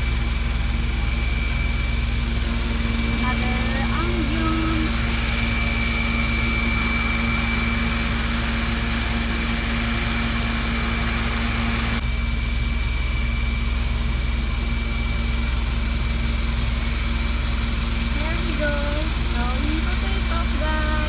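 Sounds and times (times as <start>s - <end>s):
helicopter rotor beat: 0.0s - 21.0s
helicopter turbine whine: 0.0s - 21.0s.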